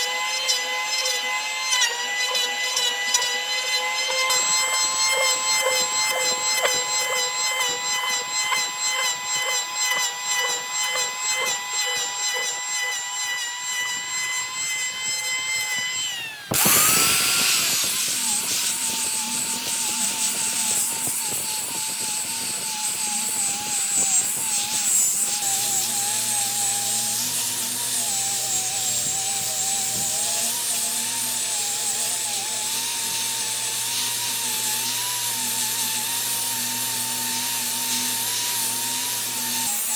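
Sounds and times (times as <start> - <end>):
hissing power tool: 0.0 - 39.9
power tool motor whining: 0.0 - 39.9.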